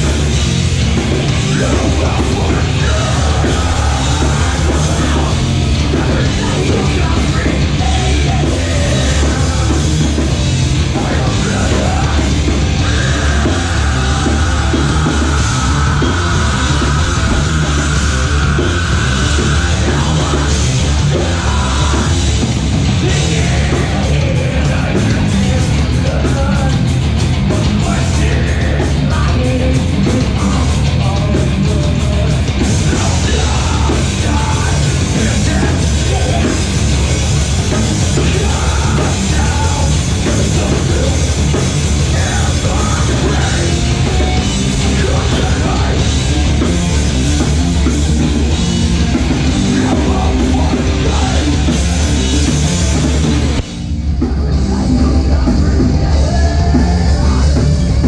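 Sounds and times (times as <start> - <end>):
live metal band playing: 0.0 - 58.0.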